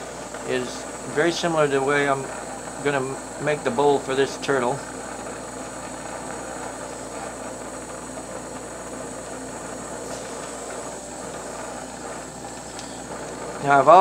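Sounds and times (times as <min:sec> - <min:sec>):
torch hissing: 0:00.0 - 0:14.0.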